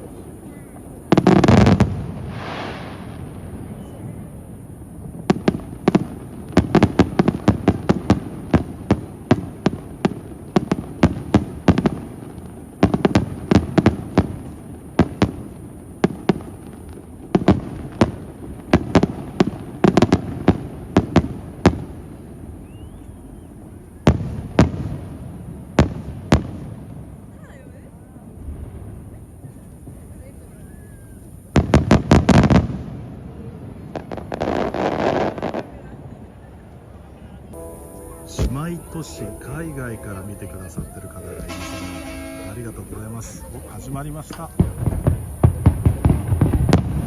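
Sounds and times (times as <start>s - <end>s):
fireworks bangs: 0.0s - 27.5s, 28.3s - 36.2s, 37.5s - 47.0s.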